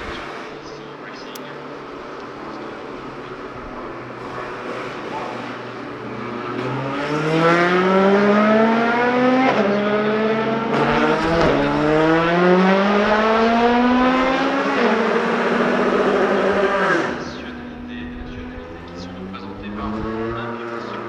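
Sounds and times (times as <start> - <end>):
race car engine accelerating: 0.0 - 21.0.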